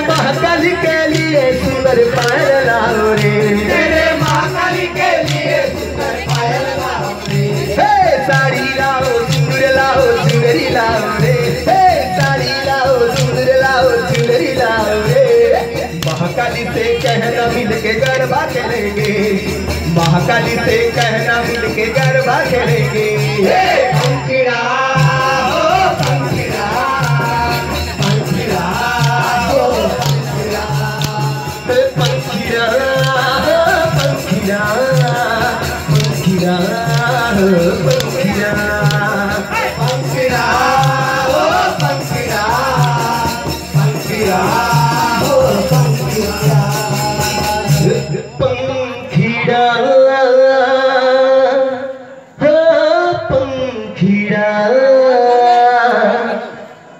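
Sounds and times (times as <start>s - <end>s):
steady drum beat: 0.0s - 24.3s, 25.0s - 48.1s
band melody: 0.0s - 48.4s
jingling percussion: 0.0s - 51.2s
singing with instrumental backing: 0.0s - 56.9s.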